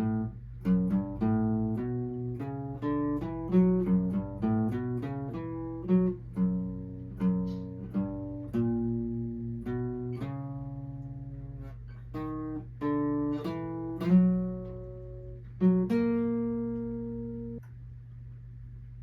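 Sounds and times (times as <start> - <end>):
plucked guitar notes: 0.0 - 17.6
steady low hum: 0.0 - 19.0.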